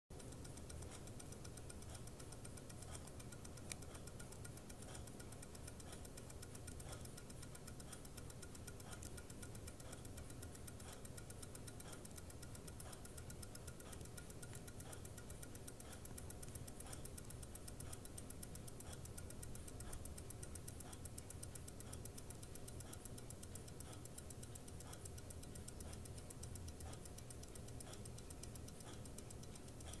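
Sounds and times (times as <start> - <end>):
wristwatch ticking: 0.1 - 30.0.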